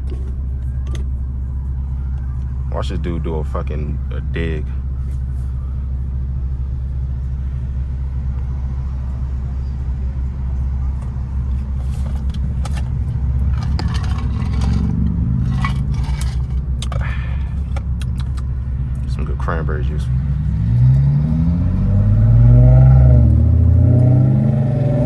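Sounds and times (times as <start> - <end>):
low exhaust drone in car cabin: 0.0 - 25.0.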